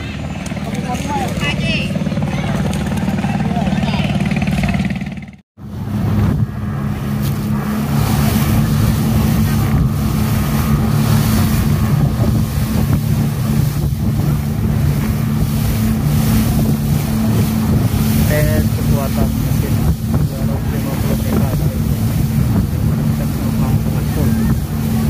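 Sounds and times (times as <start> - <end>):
outboard motors running: 0.0 - 25.0
water rushing: 0.0 - 25.0
wind: 0.0 - 25.0.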